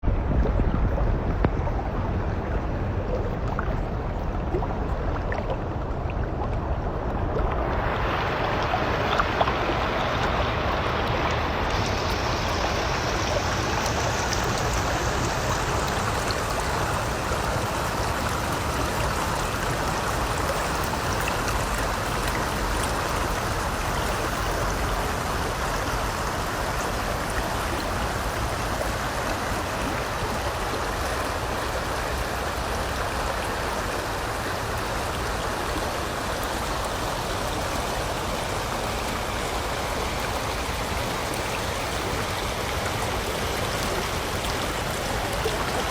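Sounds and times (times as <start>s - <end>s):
river water rushing around rocks: 0.1s - 45.9s.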